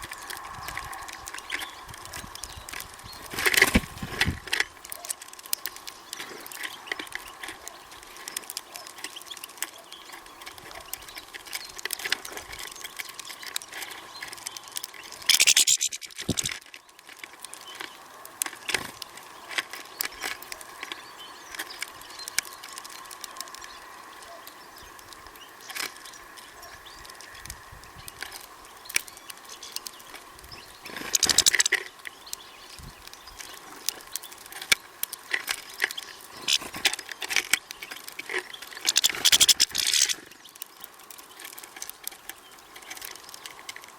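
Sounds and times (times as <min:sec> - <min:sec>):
birds clicking and tapping at feeder: 0:00.0 - 0:43.9.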